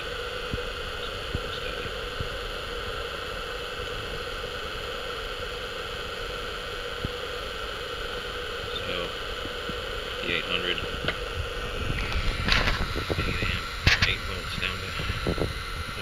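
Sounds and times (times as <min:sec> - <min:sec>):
electric motor hum and whine: 0:00.0 - 0:16.0.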